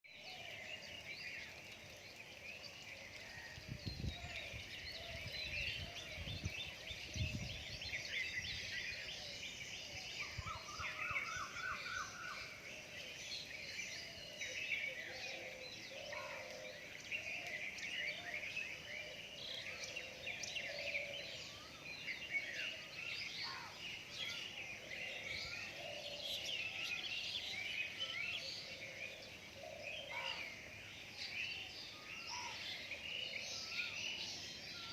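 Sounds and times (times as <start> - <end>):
birds chirping and singing: 0.1 - 34.9.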